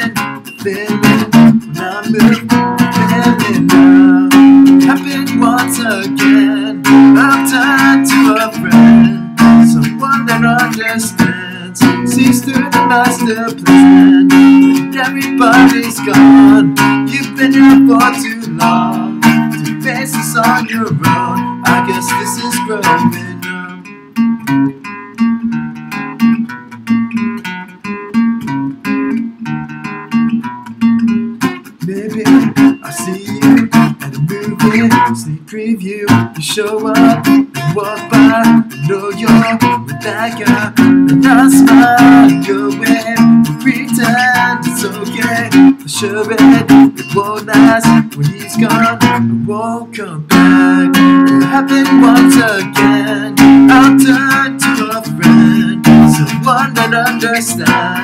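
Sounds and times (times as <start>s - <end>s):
man singing: 0.0s - 24.0s, 31.7s - 58.0s
acoustic guitar: 0.0s - 58.0s.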